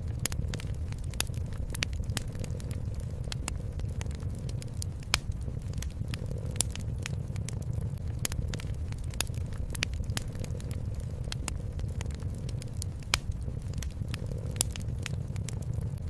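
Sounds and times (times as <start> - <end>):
wood fire crackling and popping: 0.0 - 16.0
cat purring: 0.1 - 16.0.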